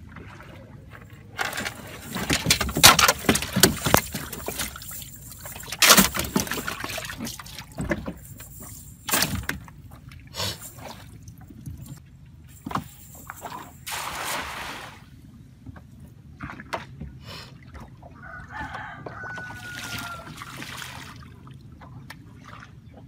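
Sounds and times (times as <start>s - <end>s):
knocks and thumps in a boat: 0.0s - 13.9s, 15.5s - 23.0s
water splashing: 0.0s - 15.2s, 17.6s - 22.8s.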